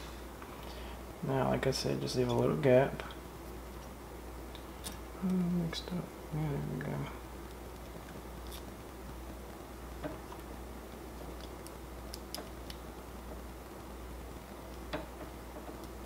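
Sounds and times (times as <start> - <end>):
faint hiss: 0.0 - 16.0
steady low hum: 0.0 - 16.0.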